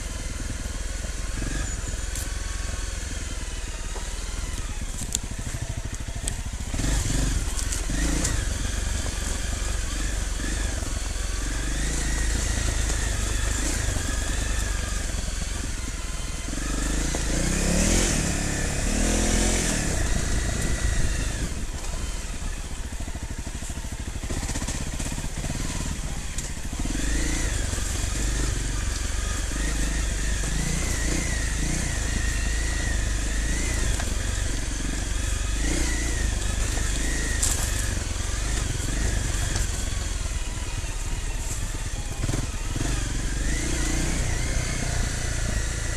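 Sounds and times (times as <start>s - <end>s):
off-road motorcycle engine revving: 0.0s - 45.9s.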